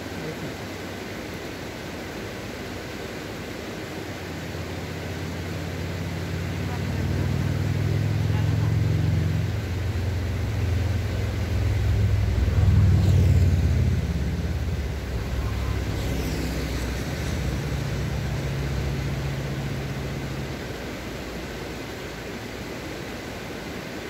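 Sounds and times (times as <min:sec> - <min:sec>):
small stream rushing: 0:00.0 - 0:24.0
vehicle engine humming: 0:04.2 - 0:23.7.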